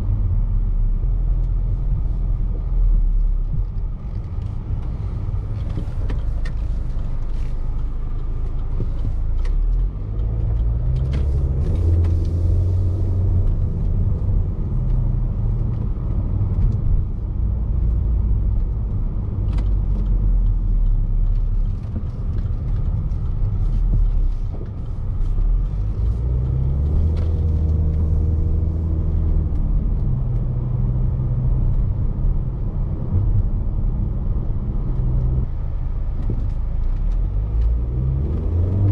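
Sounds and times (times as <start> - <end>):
car engine accelerating: 0.0 - 38.9
road rumble: 0.0 - 38.9.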